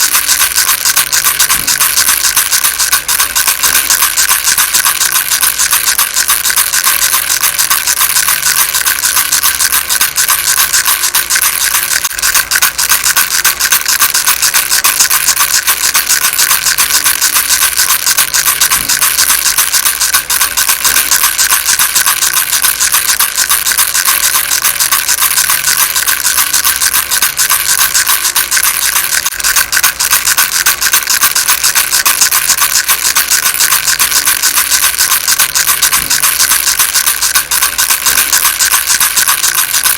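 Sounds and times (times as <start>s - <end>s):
baby rattle shaken fast: 0.0s - 39.9s.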